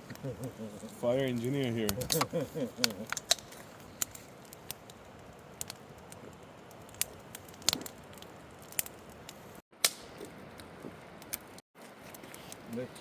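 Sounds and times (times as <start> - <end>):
campfire crackling and popping: 0.0 - 13.0
fire hissing: 0.0 - 13.0.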